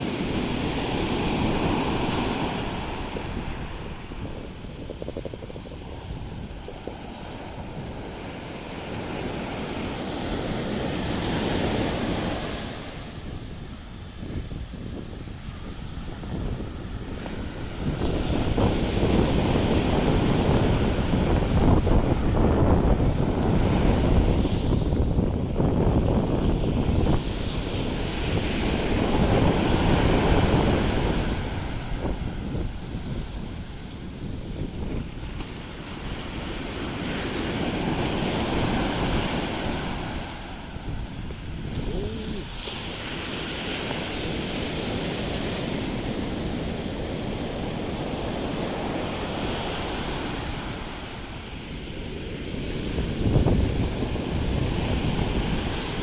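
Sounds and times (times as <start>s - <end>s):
sea waves breaking on beach: 0.0s - 56.0s
wind buffeting microphone: 0.0s - 56.0s.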